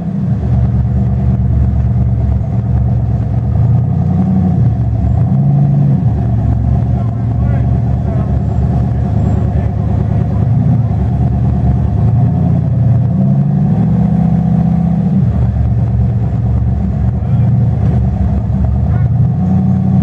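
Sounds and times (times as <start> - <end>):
buggy engine revving: 0.0 - 20.0.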